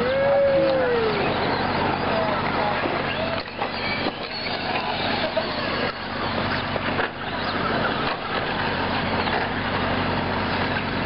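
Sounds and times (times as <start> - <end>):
radio-controlled trucks racing: 0.0 - 11.0.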